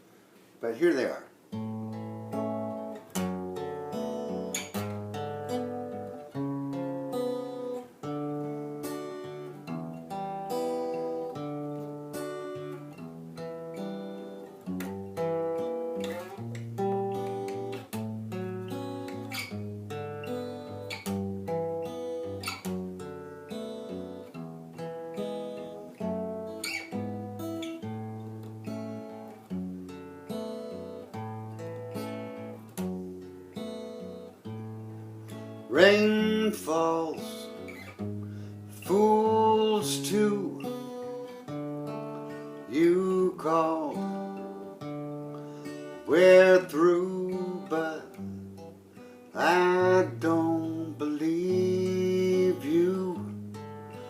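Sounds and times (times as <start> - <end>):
acoustic guitar strumming: 0.8 - 54.0.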